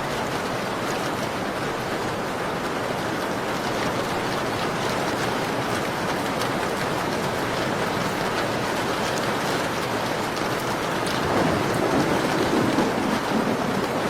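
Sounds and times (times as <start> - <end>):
rain on a window: 0.0 - 14.0.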